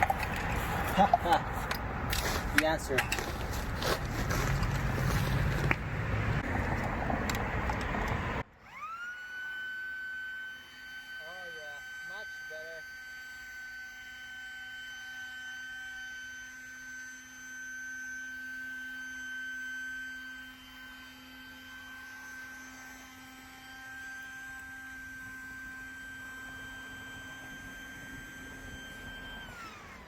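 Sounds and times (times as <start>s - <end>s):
air pump motor whining: 0.0s - 5.8s, 6.4s - 30.0s.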